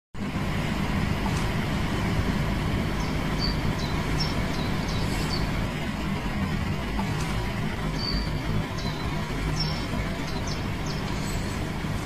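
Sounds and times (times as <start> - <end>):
machinery rumble with low hum: 0.2 - 12.0.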